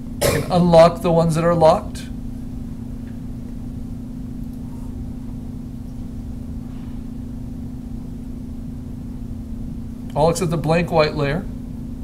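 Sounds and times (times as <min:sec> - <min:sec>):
low hum with rumble: 0:00.0 - 0:12.0.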